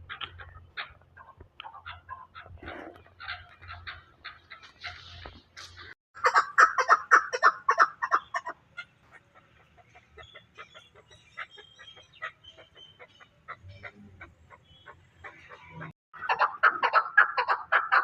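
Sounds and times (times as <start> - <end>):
partridge calling: 0.0 - 18.0.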